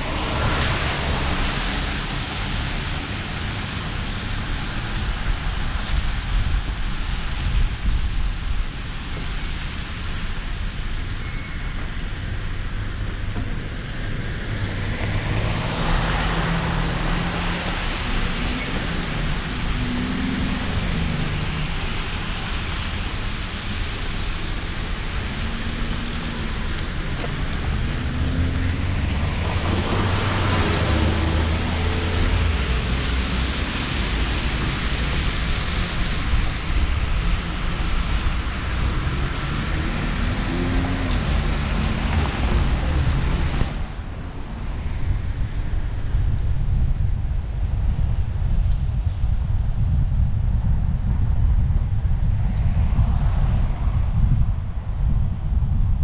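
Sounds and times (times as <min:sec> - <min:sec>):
low wind rumble: 0:00.0 - 0:56.0.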